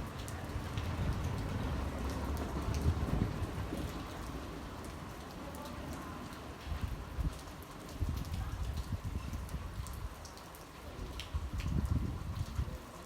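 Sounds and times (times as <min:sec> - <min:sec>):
raindrops ticking: 0:00.0 - 0:13.0
steady rain falling: 0:00.0 - 0:13.0.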